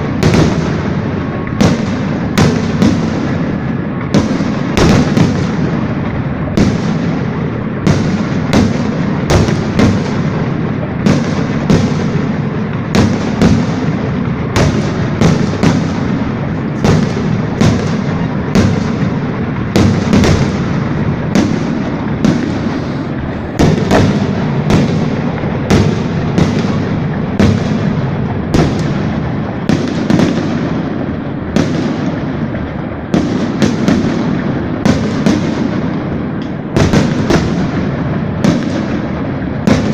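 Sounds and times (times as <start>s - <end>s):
fireworks bursting bangs: 0.0s - 39.9s
rumbling crackle: 0.0s - 39.9s.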